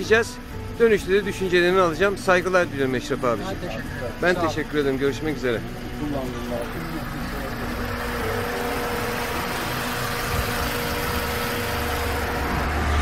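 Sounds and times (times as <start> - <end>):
car engine idling: 0.0 - 13.0
deeper engine rumble: 0.0 - 13.0.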